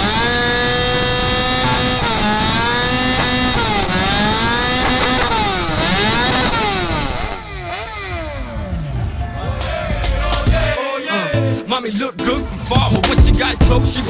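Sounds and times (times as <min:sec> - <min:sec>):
engine revving: 0:00.0 - 0:10.8, 0:12.8 - 0:14.0.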